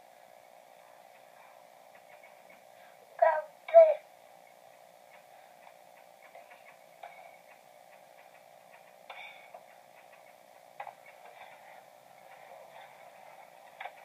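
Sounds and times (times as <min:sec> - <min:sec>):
baby monitor speaker hiss: 0:00.0 - 0:14.0.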